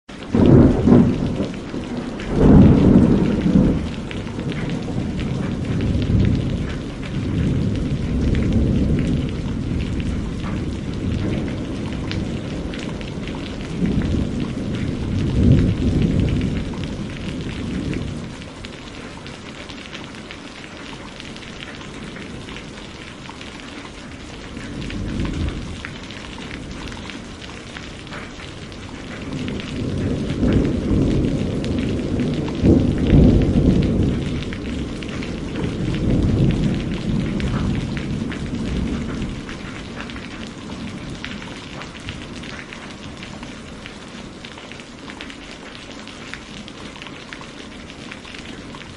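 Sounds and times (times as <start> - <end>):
steady rain: 0.0 - 48.9
rolling thunder: 0.2 - 19.4, 24.2 - 44.5.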